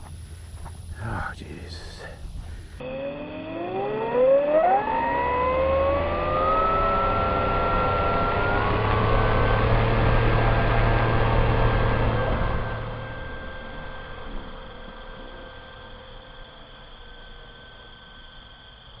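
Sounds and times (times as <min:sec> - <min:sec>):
model plane motor whining: 0:02.8 - 0:18.3.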